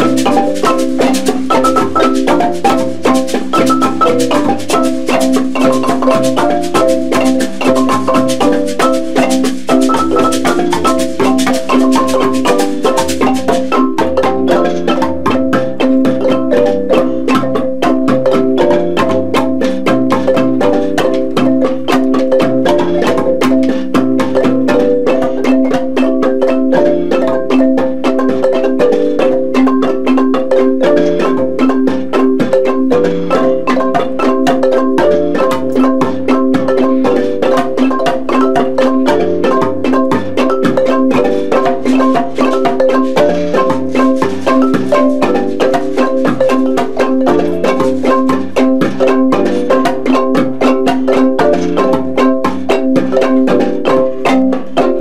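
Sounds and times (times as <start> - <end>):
marimbas playing fast pattern: 0.0 - 55.0.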